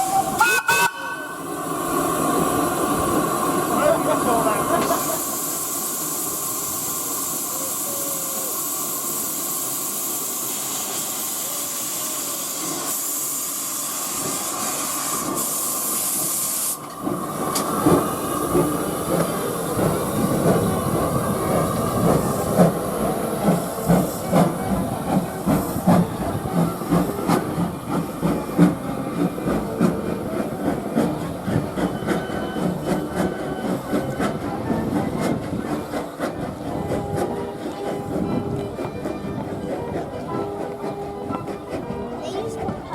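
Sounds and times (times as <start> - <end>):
steam locomotive hissing: 0.0 - 42.9
train clatter and rumble: 0.0 - 42.9.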